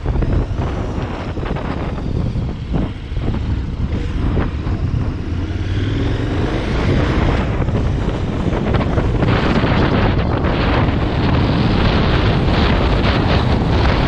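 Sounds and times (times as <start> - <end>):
vehicle engine running: 0.0 - 14.0
wind buffeting microphone: 0.0 - 14.0.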